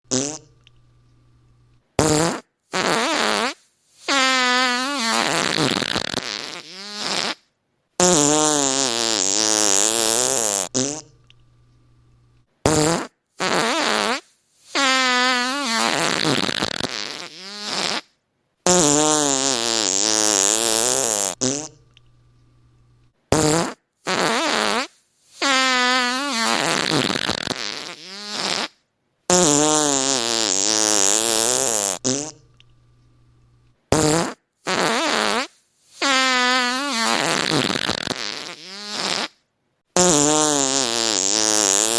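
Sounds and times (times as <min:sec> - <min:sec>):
fart sounds: 0:00.1 - 0:00.5, 0:02.0 - 0:11.2, 0:12.6 - 0:21.8, 0:23.3 - 0:32.4, 0:33.9 - 0:41.9.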